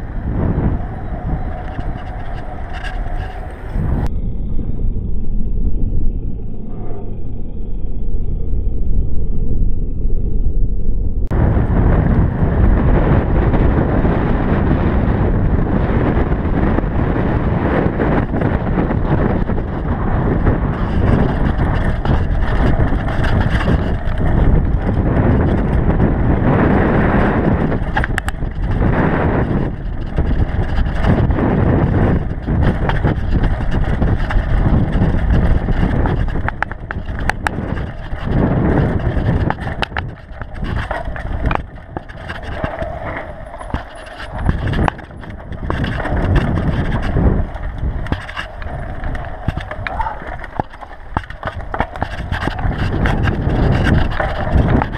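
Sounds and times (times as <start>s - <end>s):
bike rattling over bumps: 0.0s - 5.2s, 11.3s - 54.9s
wind rush: 0.0s - 54.9s.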